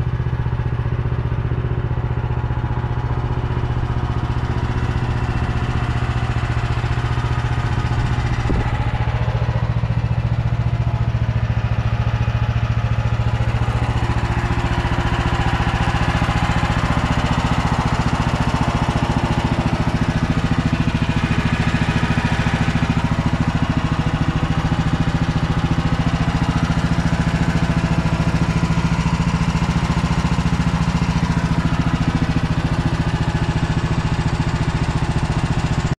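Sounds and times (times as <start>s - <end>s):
small engine running steadily: 0.0s - 36.0s.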